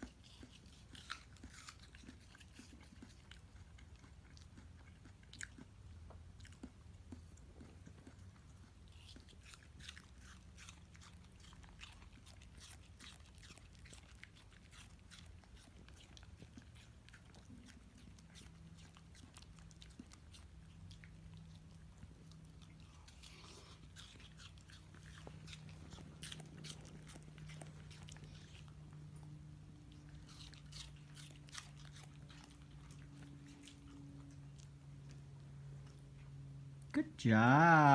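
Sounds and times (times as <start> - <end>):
faint low steady hum: 0.0 - 37.9
puppy crunching apple: 0.0 - 37.9.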